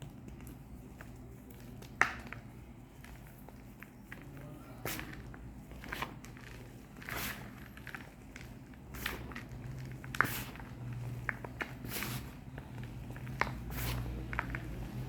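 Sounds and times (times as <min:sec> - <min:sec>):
chalk being crushed: 0:01.2 - 0:15.0.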